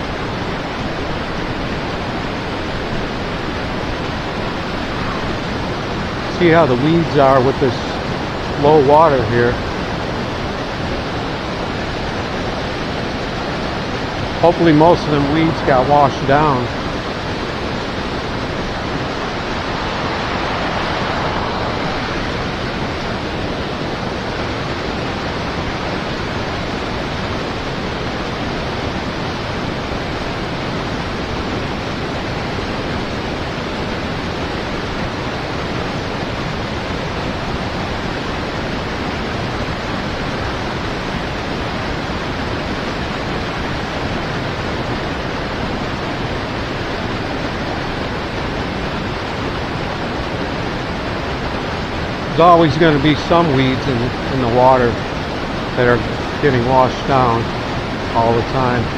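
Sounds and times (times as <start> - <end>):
river rapids rushing: 0.0 - 58.9.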